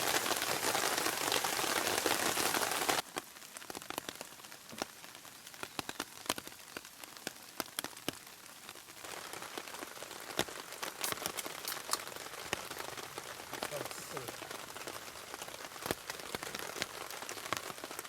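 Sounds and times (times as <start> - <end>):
rain patter: 0.0 - 18.0.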